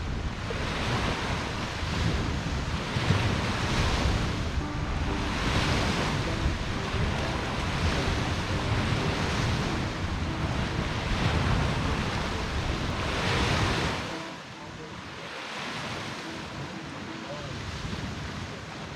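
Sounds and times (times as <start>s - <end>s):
storm wind buffeting microphone: 0.0s - 18.9s.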